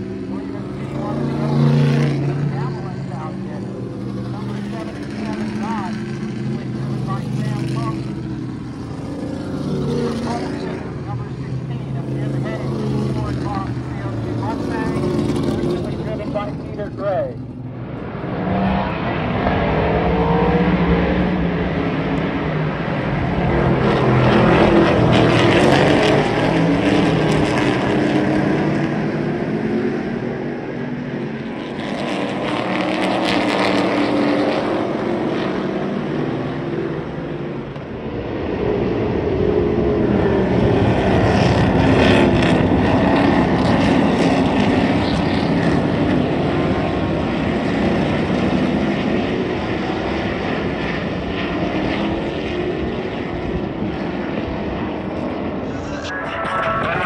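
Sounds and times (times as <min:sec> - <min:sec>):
race car engines racing past: 0:00.0 - 0:57.0.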